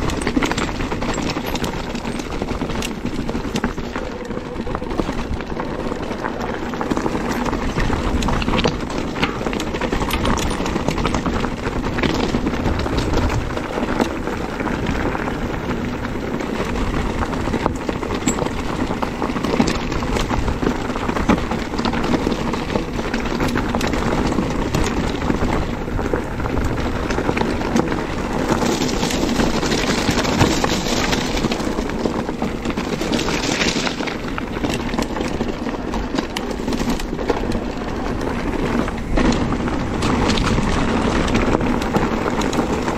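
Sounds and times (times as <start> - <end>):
bike rattling over rocks: 0.0 - 42.9
wind over microphone: 0.0 - 42.9.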